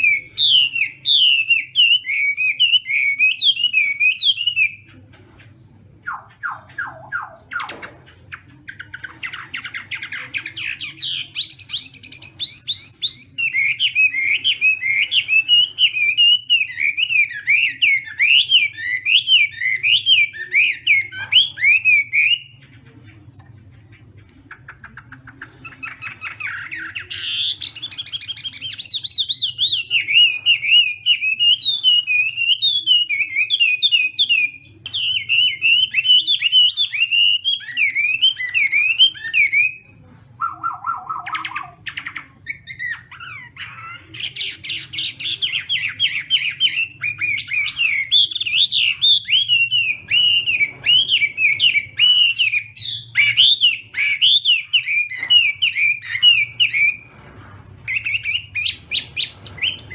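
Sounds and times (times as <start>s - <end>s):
bird singing warbled song: 0.0s - 59.9s.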